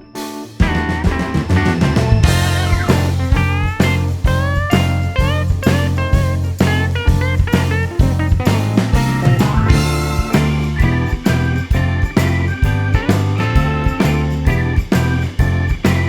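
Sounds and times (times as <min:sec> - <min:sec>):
drum beat and bass: 0:00.0 - 0:16.0
blues-rock electric guitar: 0:00.1 - 0:16.0.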